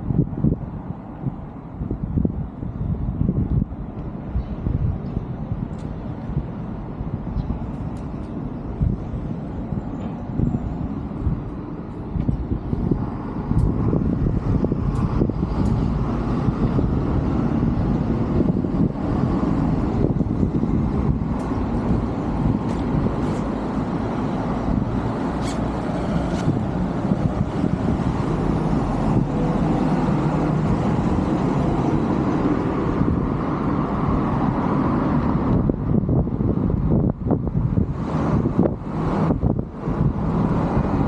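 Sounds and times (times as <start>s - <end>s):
road traffic rumble: 0.0s - 41.0s.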